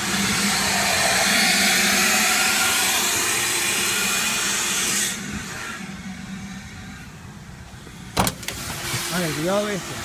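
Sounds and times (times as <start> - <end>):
shop vacuum running: 0.0 - 10.0.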